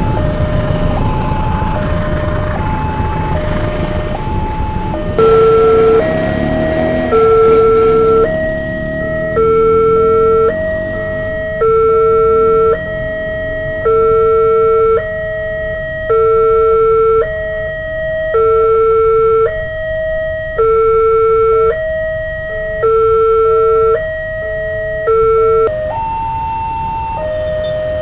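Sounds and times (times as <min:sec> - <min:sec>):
steady alarm tones: 0:00.0 - 0:28.0
two-tone crossing alarm: 0:00.0 - 0:28.0.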